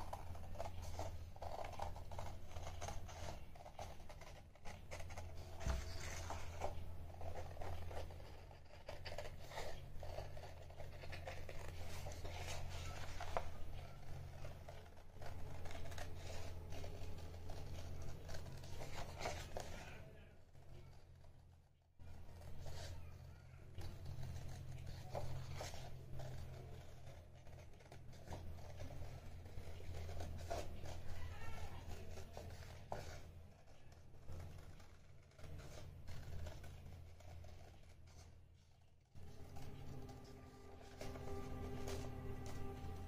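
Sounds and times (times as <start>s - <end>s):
paper rustling: 0.0s - 43.0s
scissors snipping paper: 0.0s - 43.0s
steady low hum: 0.0s - 43.0s.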